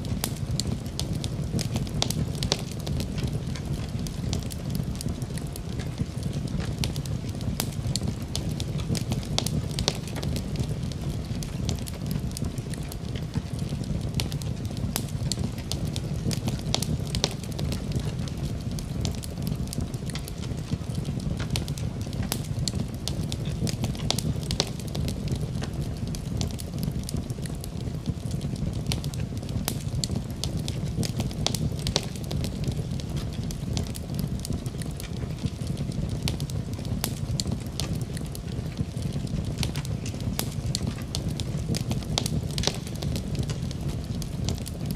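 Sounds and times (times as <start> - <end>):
low rumble of fire: 0.0 - 44.9
wood fire crackling and popping: 0.0 - 44.9.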